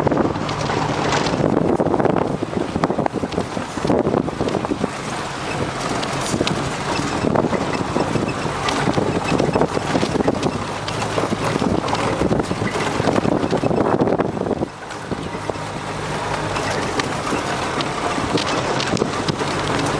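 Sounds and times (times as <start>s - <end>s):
body and suspension rattles: 0.0s - 19.9s
vehicle engine running: 0.0s - 19.9s.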